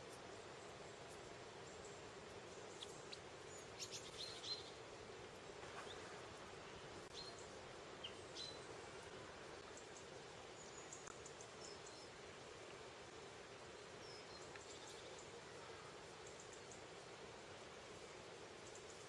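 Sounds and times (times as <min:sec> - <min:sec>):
small birds chirping: 0:00.0 - 0:06.2, 0:06.8 - 0:12.6, 0:13.6 - 0:17.2, 0:18.0 - 0:19.0
steady outdoor hiss: 0:00.0 - 0:19.0.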